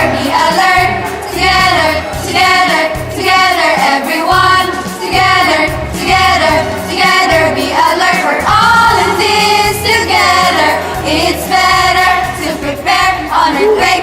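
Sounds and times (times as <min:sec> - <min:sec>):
musical backing track: 0:00.0 - 0:14.0
voices singing together: 0:00.0 - 0:14.0.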